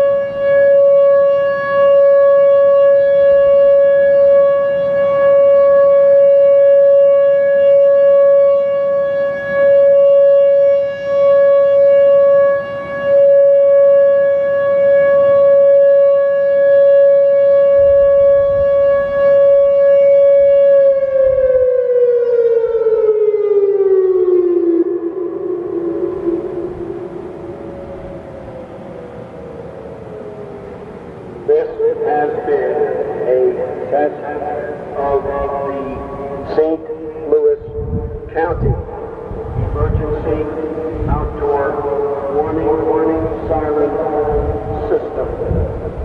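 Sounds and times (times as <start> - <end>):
warning siren steady tone: 0.0 - 46.0.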